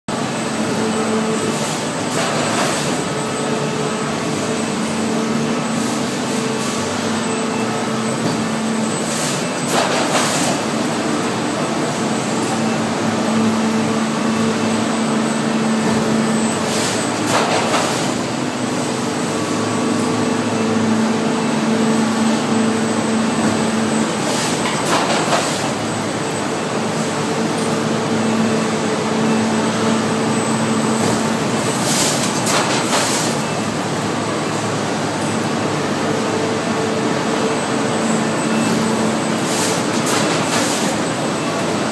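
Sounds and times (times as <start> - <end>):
machine mechanical hum: 0.1 - 41.9.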